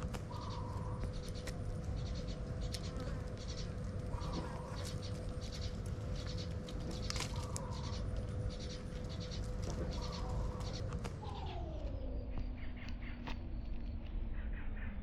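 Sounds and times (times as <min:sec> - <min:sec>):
birds chirping: 0:00.0 - 0:15.0
steady hum: 0:00.0 - 0:15.0.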